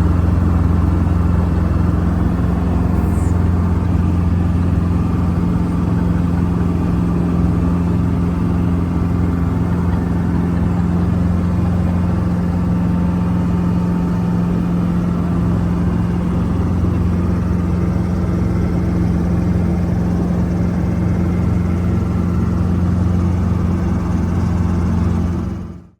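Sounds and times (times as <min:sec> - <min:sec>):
helicopter drone: 0:00.0 - 0:25.9.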